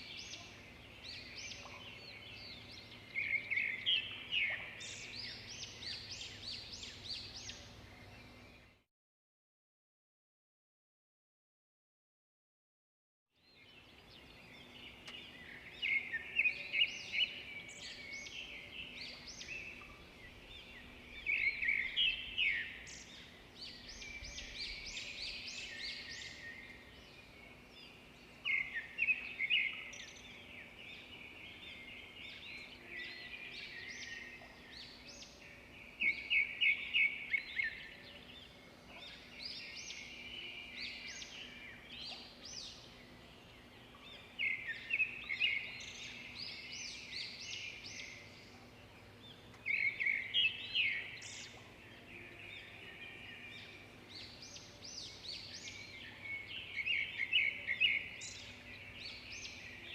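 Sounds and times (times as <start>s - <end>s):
small birds chirping: 0.0s - 8.8s, 13.4s - 59.9s.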